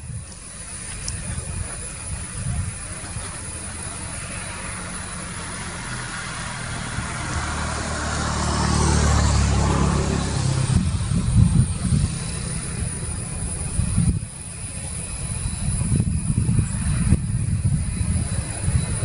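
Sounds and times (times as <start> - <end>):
jet engines hissing: 0.0 - 19.0.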